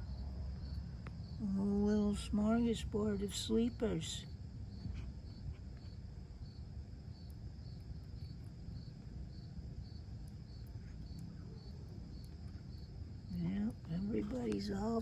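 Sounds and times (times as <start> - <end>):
cricket chirping: 0.0 - 15.0
low background rumble: 0.0 - 15.0.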